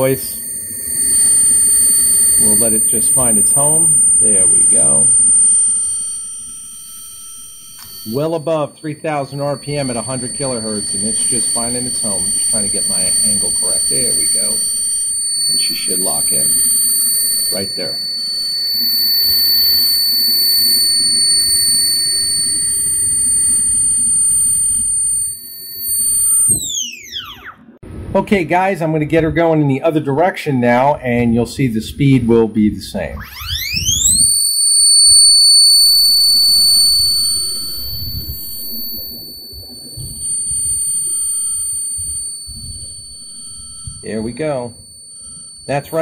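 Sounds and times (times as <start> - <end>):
stepper motor whining: 0.0 - 27.7, 33.2 - 46.0.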